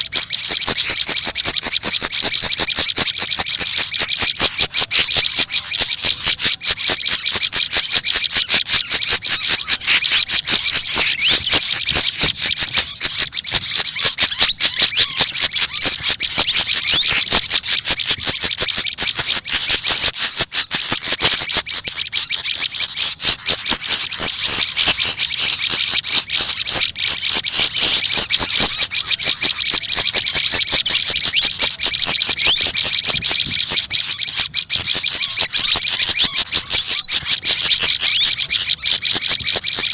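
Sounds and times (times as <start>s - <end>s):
songbirds chattering: 0.0s - 39.9s.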